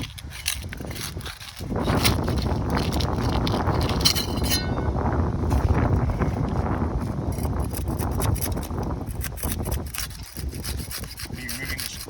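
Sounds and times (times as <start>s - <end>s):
rough scraping and rubbing: 0.0s - 12.0s.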